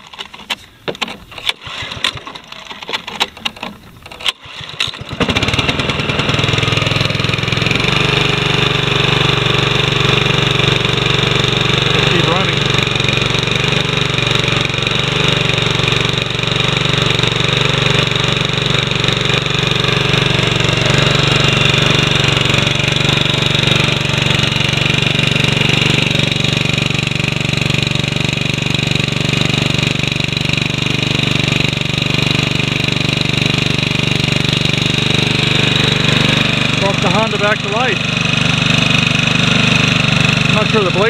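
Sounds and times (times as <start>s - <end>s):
lawn mower engine running: 0.0s - 41.0s.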